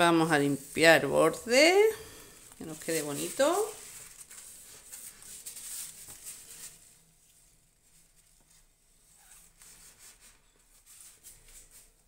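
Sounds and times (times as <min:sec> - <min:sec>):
paper towel rubbing ceramic: 0:00.0 - 0:02.0, 0:02.6 - 0:12.0.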